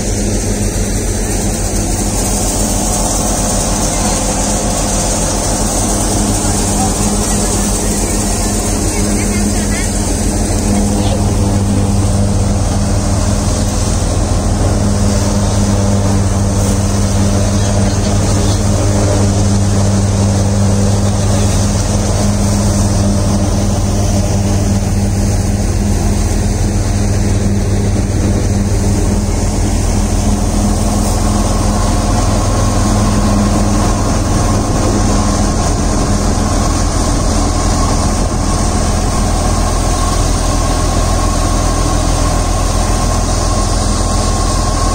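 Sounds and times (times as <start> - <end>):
wheat thresher machine drone: 0.0 - 44.9.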